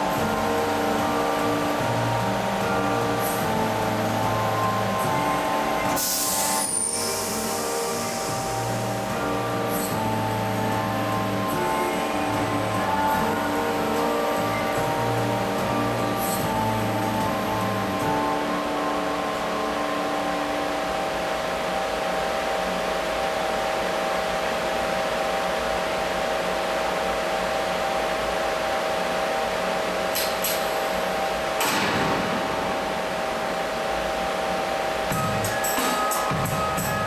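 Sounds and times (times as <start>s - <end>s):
fan whirring and humming: 0.0s - 37.0s.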